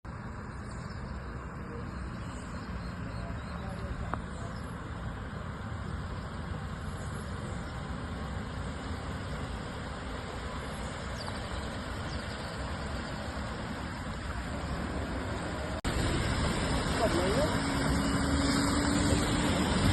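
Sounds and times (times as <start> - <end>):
vehicle engine running: 0.1 - 19.9.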